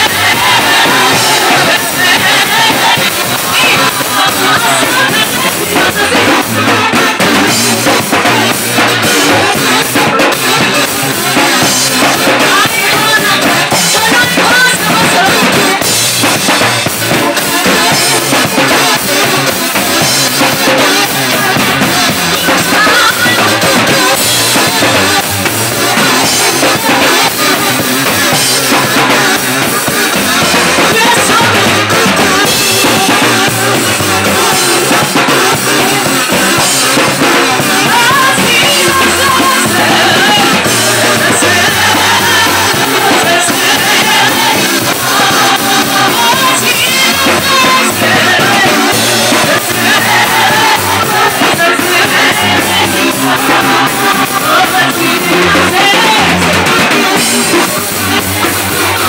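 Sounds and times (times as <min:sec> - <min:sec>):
drum kit beat: 0:00.0 - 0:59.0
voices singing: 0:00.0 - 0:59.0.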